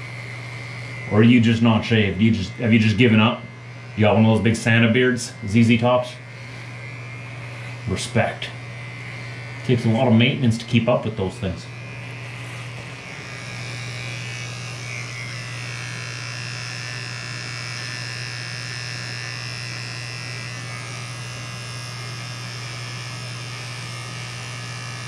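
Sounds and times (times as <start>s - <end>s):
electric beard trimmer buzzing: 0.0s - 25.0s.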